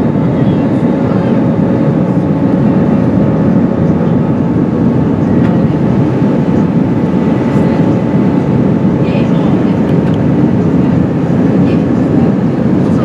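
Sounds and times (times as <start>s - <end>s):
airplane cabin roar: 0.0s - 13.0s.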